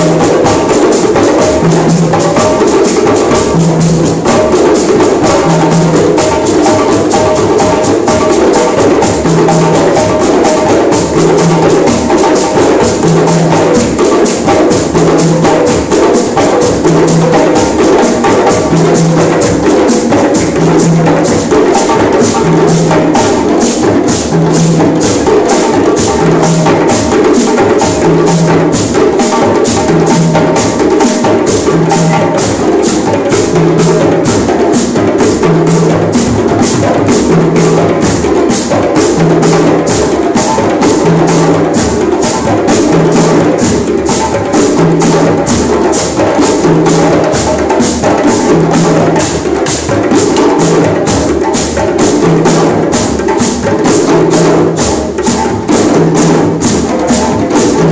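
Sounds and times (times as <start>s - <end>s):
djembe hand drums: 0.0s - 57.9s.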